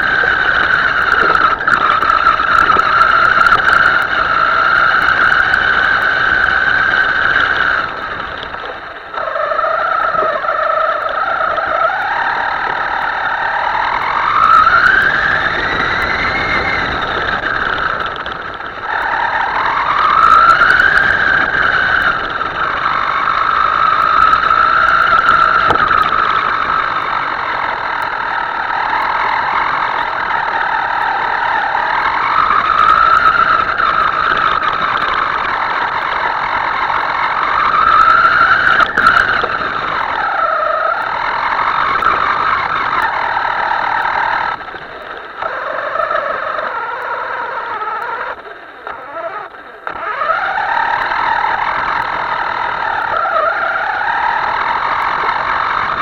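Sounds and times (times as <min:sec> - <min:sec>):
model boat motor whining: 0:00.0 - 0:56.0.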